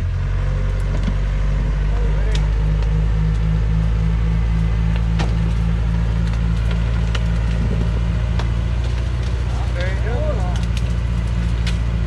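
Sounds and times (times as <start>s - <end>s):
diesel truck engine droning: 0.0s - 12.0s.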